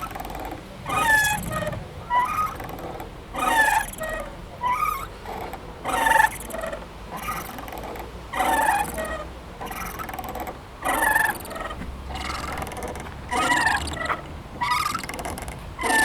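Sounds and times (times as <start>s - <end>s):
playground swing squeaking: 0.0s - 16.0s.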